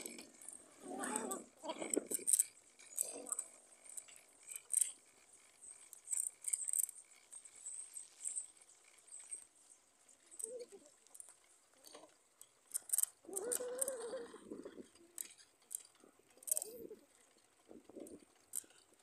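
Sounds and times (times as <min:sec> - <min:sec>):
camera clicks and rattles: 0:01.7 - 0:09.5, 0:10.3 - 0:19.0.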